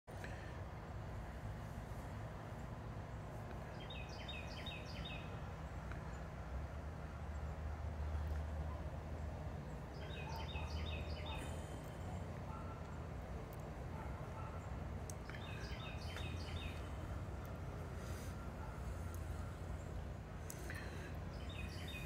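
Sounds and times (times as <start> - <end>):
songbird singing: 0.2 - 22.0.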